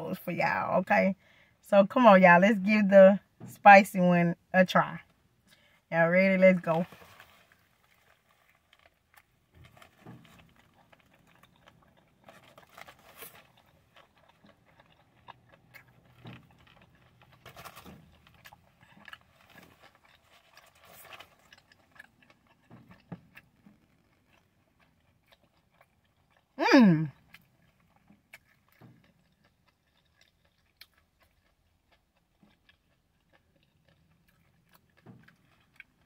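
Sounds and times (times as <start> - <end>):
moist chewing: 6.9 - 36.0.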